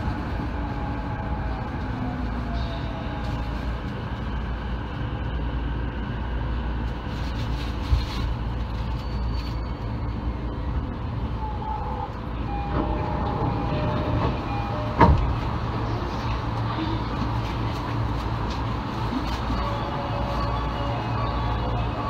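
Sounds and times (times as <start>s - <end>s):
train low hum: 0.0s - 22.0s.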